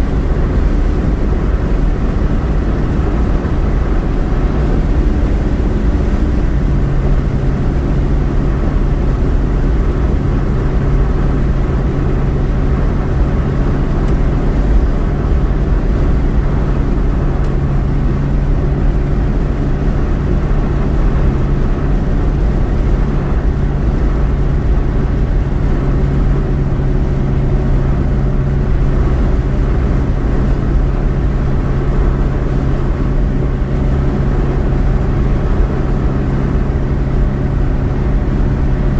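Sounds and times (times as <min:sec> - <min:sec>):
road and engine noise inside car: 0:00.0 - 0:38.9.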